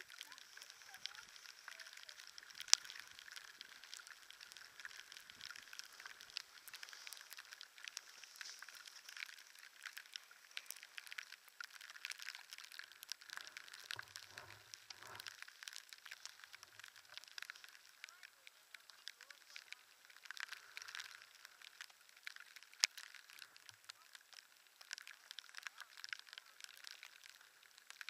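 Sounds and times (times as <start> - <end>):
snow grains ticking on camera: 0.0 - 28.0.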